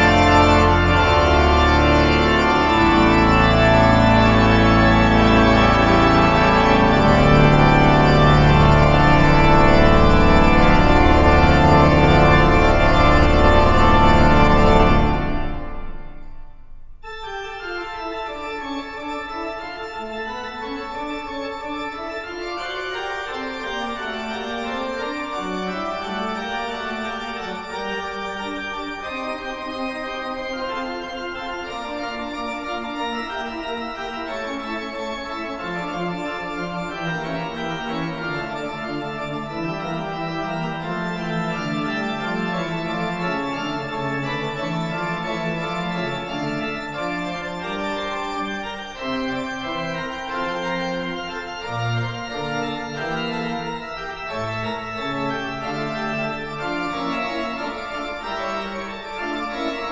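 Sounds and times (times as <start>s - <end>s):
organ-like keyboard music: 0.0s - 59.9s.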